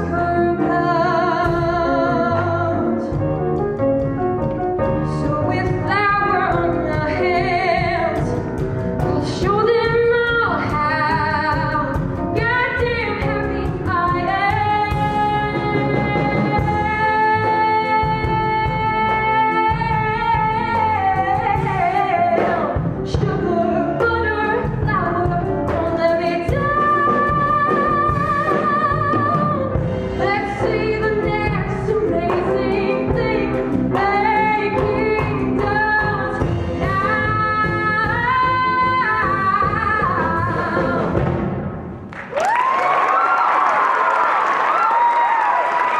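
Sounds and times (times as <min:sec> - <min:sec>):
woman singing a ballad: 0:00.0 - 0:03.2, 0:05.1 - 0:08.4, 0:09.0 - 0:41.2
instrumental accompaniment: 0:00.0 - 0:42.1.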